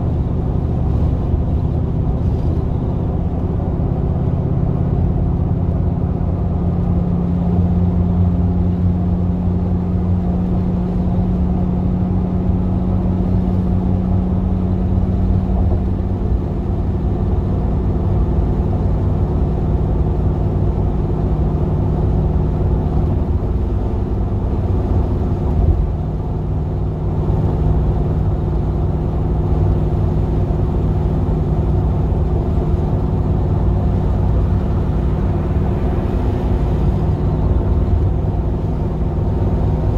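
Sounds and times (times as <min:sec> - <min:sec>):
van engine rumbling: 0:00.0 - 0:39.9.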